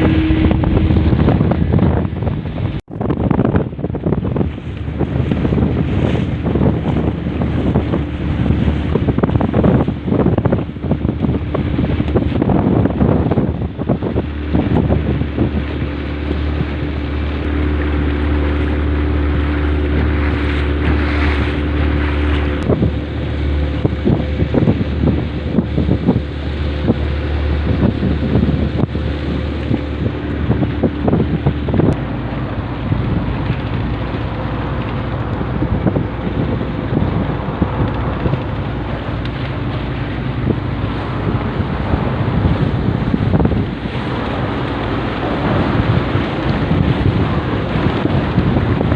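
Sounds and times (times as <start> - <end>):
motorboat engine running: 0.0 - 48.9
water slapping against hull: 0.0 - 48.9
wind buffeting microphone: 0.0 - 48.9.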